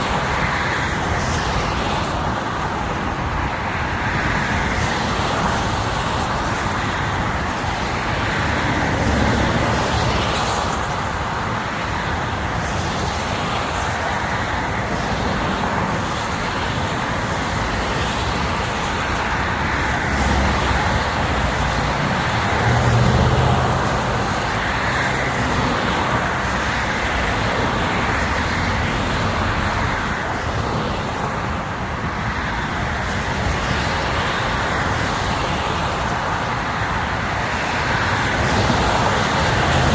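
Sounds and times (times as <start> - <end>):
highway traffic rumble: 0.0 - 39.9.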